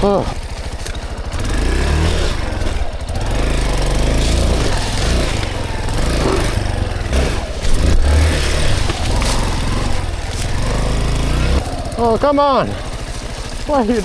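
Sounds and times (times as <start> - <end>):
clunks: 0.0 - 14.0
dirt bike engine revving: 0.0 - 14.0.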